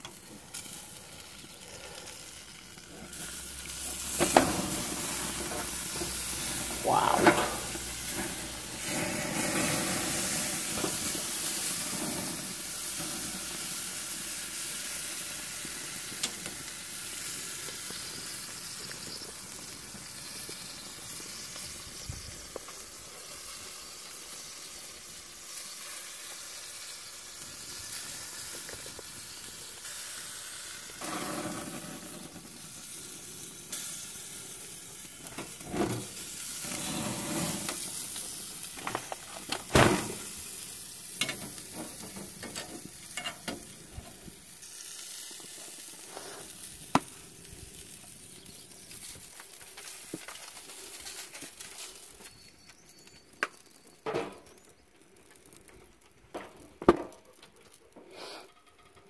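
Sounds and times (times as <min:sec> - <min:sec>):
roast sizzling on a grill: 0:00.0 - 0:59.0.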